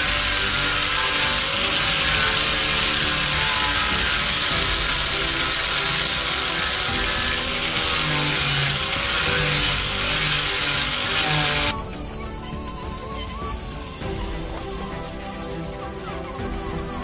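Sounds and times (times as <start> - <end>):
angle grinder sanding wood: 0.0 - 17.0.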